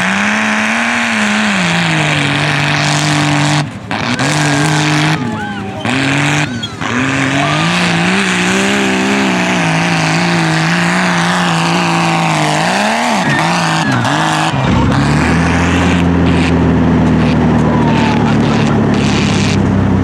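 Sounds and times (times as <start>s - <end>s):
low steady engine drone: 0.0s - 20.0s
truck engine revving hard: 0.0s - 20.0s.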